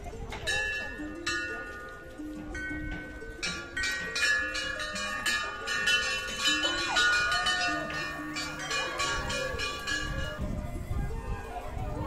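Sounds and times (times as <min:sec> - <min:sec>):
temple bells ringing: 0:00.0 - 0:12.0.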